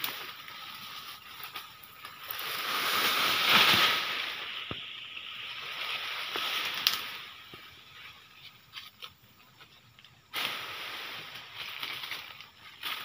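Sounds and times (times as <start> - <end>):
leaves and twigs rustling: 0.0 - 13.0.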